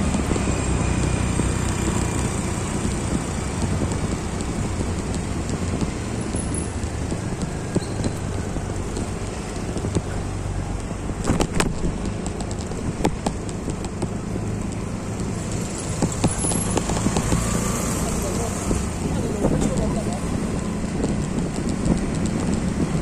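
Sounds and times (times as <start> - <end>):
vehicle engine hum with road noise: 0.0 - 23.0.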